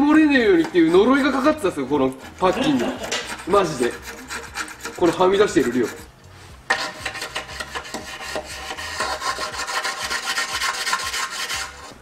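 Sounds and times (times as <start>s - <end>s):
hand tool scraping metal: 0.3s - 6.1s, 6.7s - 12.0s.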